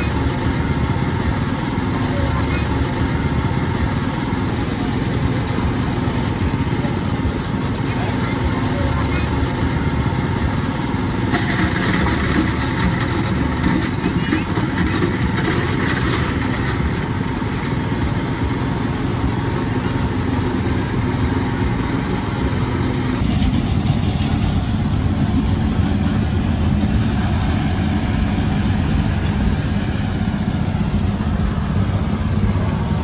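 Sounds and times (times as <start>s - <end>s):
small engine idling: 0.0s - 33.0s.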